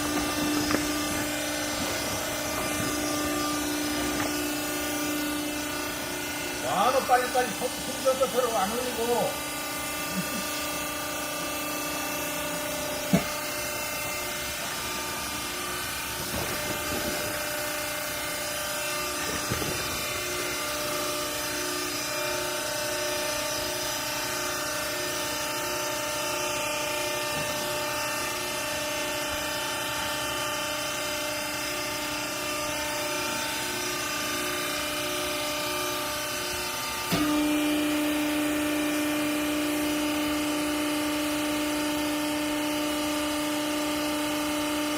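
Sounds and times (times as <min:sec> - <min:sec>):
motor and pump humming: 0:00.0 - 0:44.9.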